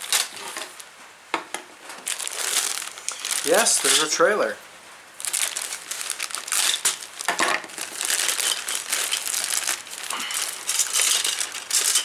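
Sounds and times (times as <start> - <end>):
plastic bag crinkling: 0.0 - 0.9, 1.8 - 12.0.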